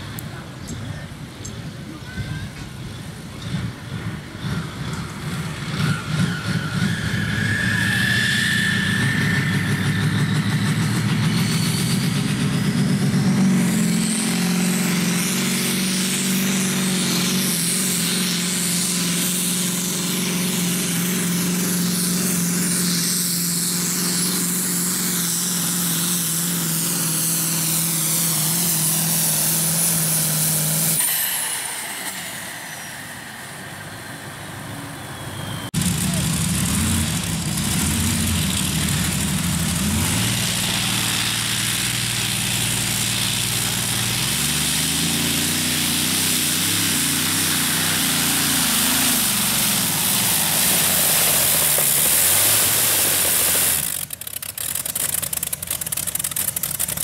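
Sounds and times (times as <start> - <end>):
turbo whine: 0.0 - 54.2
engine running at high revs: 2.5 - 57.0.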